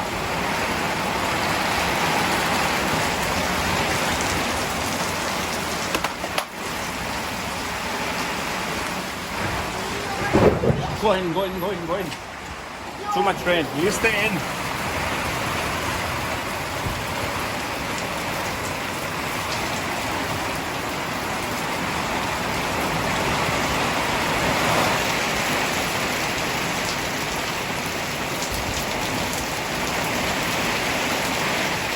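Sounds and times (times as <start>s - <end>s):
heavy rain hissing: 0.0s - 31.9s.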